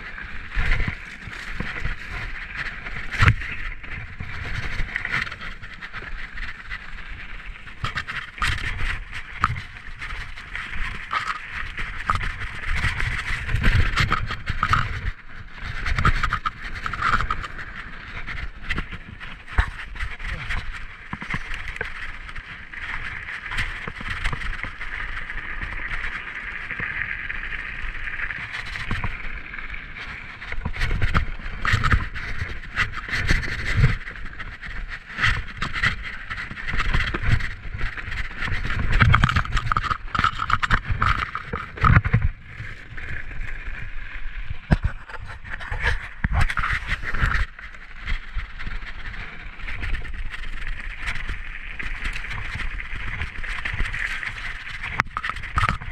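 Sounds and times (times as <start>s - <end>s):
bike chain and frame rattling: 0.0s - 55.9s
bike tyres rolling: 0.0s - 55.9s.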